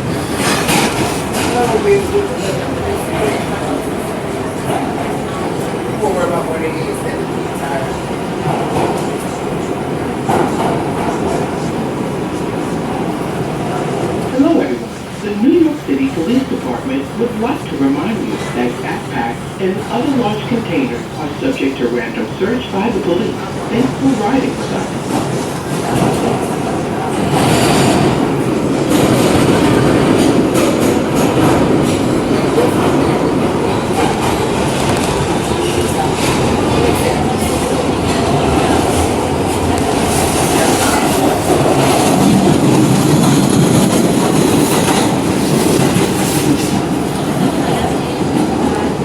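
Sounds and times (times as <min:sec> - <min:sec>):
wheels rumbling on rail: 0:00.0 - 0:49.0.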